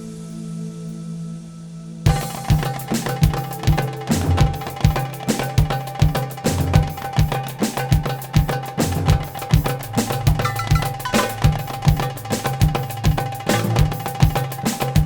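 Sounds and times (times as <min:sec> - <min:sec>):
darbuka drumming: 0:02.1 - 0:15.0.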